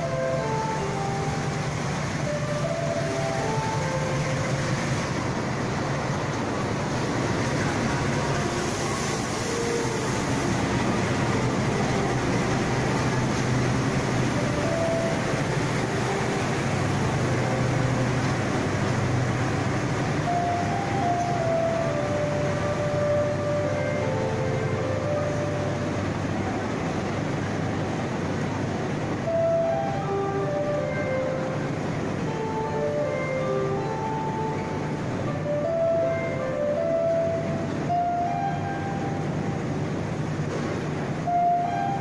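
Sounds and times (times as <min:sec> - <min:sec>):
diesel locomotive engine running: 0:00.0 - 0:42.0
train coaches rolling by: 0:00.0 - 0:42.0.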